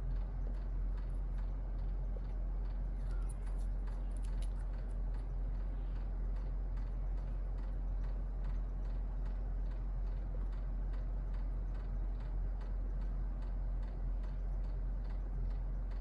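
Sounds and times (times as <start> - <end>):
faint ticking: 0.0 - 16.0
low electrical hum: 0.0 - 16.0.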